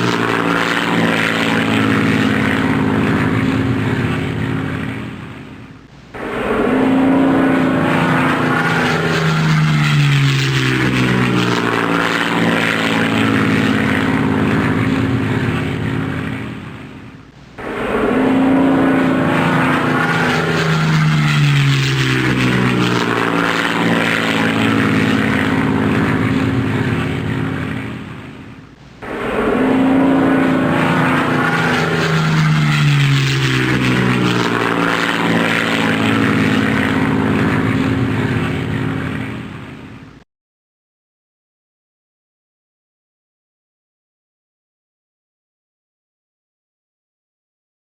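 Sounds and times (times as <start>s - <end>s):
airplane engine noise: 0.0s - 40.2s.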